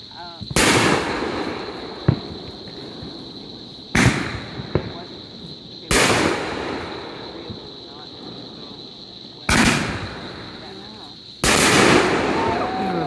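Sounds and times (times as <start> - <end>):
fireworks exploding with rumble: 0.3 - 13.0.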